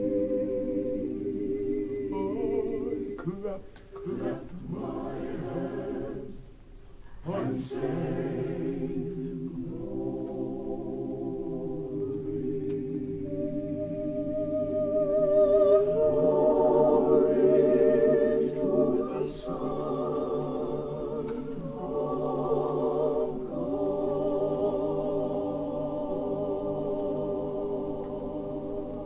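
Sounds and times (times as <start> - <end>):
choir singing long chords: 0.0 - 3.3, 3.9 - 29.0.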